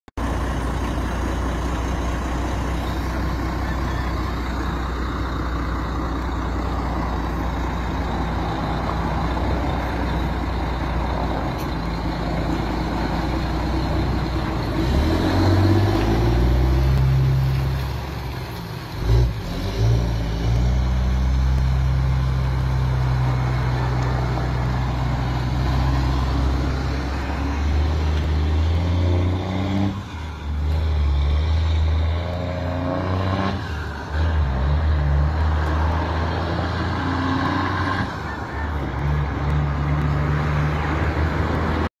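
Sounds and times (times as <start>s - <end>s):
diesel truck engine roaring: 0.1s - 41.9s.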